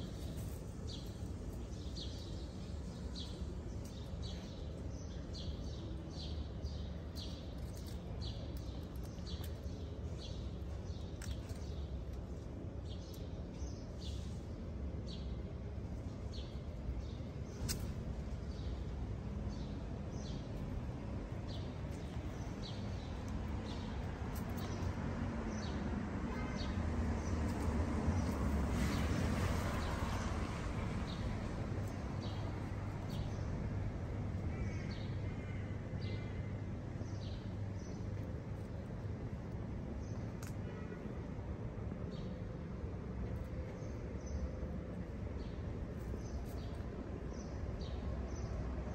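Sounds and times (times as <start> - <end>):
street traffic rumble: 0.0 - 48.9.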